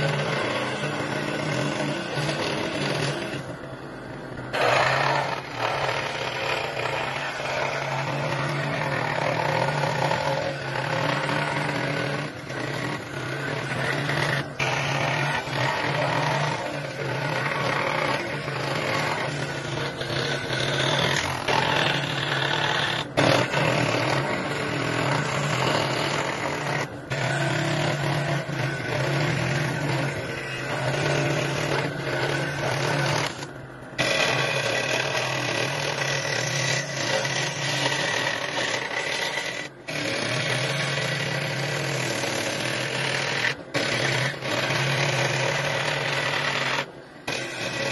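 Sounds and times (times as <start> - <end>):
woodworking power tool humming: 0.0 - 47.9.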